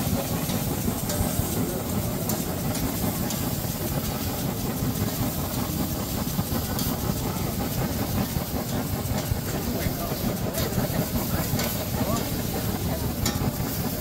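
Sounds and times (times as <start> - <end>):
background street noise: 0.0 - 14.0
low engine-like rumble: 0.0 - 14.0.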